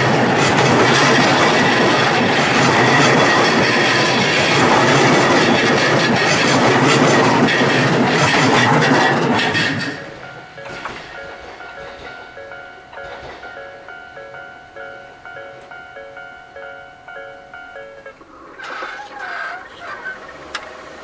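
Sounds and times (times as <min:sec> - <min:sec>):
wheels clattering over rail joints: 0:00.0 - 0:14.0, 0:18.0 - 0:21.0
level-crossing alarm ringing: 0:00.0 - 0:18.3
electric train passing: 0:00.0 - 0:21.0.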